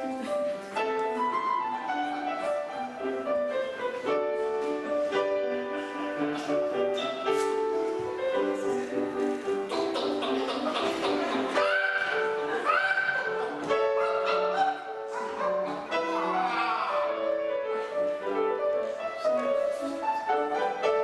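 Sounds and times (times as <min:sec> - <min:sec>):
grand piano playing: 0:00.0 - 0:21.0.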